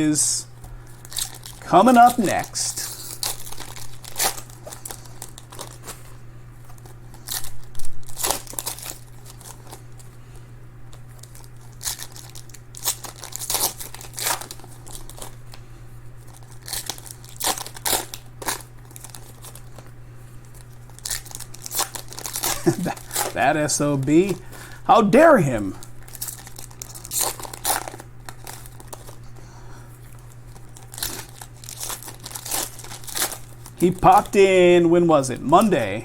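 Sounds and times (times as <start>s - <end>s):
foil wrappers tearing and crinkling: 0.6s - 10.1s, 10.9s - 15.6s, 16.2s - 36.0s.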